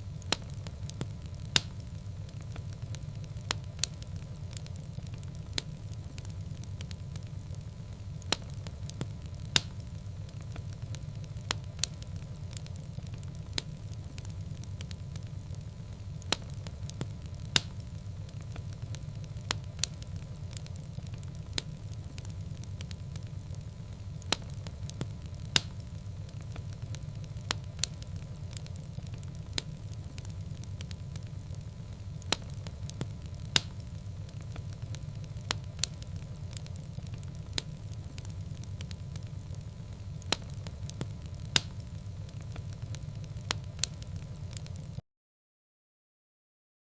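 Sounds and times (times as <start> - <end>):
fire crackling and popping: 0.0 - 45.0
low fire rumble: 0.0 - 45.0.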